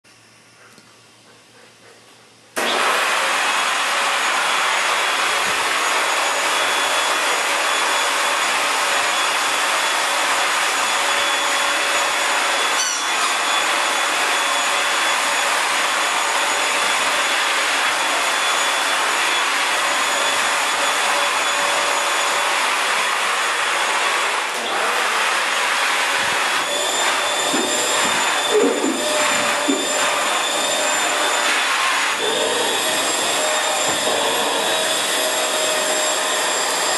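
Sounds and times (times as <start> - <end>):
vacuum cleaner whine: 2.3 - 36.9.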